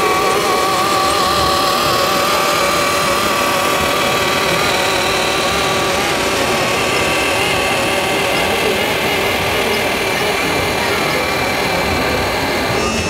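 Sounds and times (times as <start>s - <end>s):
model truck motor running: 0.0s - 13.0s.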